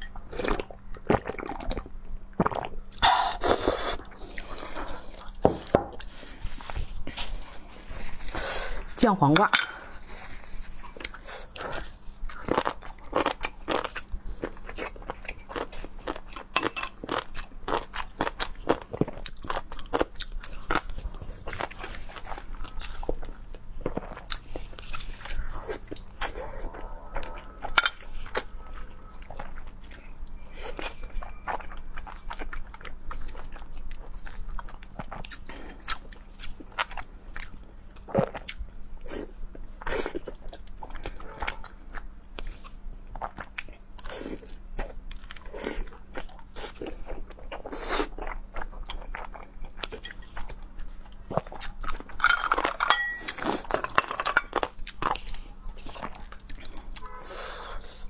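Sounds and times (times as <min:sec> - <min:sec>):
crunching pickled cucumber: 0:10.6 - 0:58.0.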